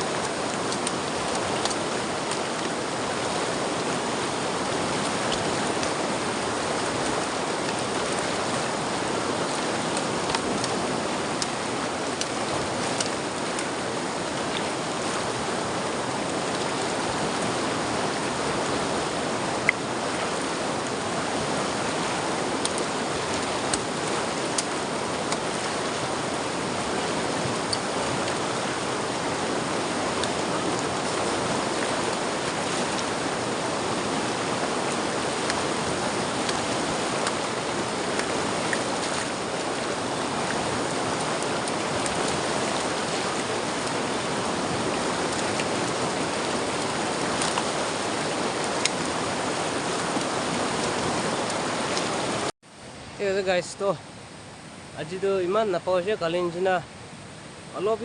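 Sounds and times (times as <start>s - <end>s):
river water over stones: 0.0s - 58.0s.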